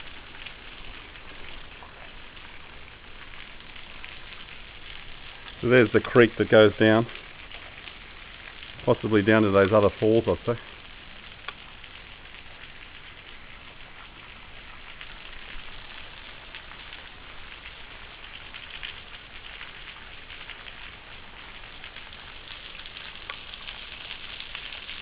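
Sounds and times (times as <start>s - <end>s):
water drops ticking: 0.0s - 25.0s
waterfall splashing into pool: 0.0s - 25.0s.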